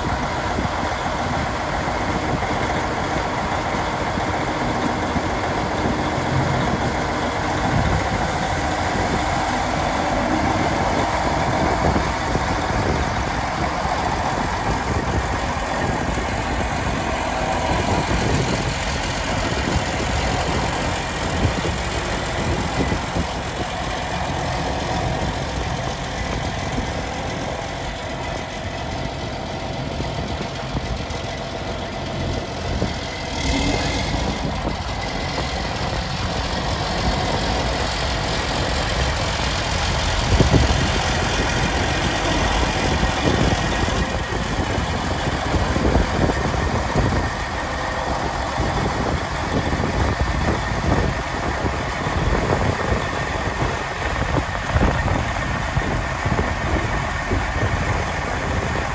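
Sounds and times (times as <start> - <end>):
tractor diesel engine idling: 0.0 - 58.9.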